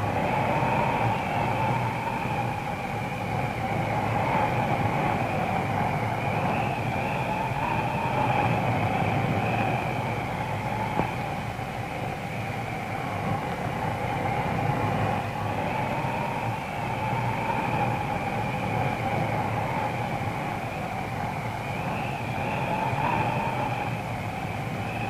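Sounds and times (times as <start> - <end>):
wind whistling: 0.0 - 25.0.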